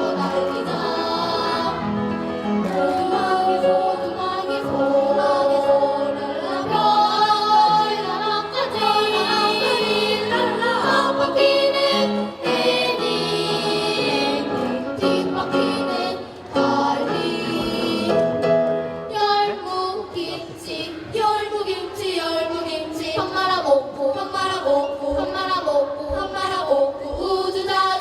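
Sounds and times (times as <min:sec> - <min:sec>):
vocal ensemble singing: 0:00.0 - 0:28.0.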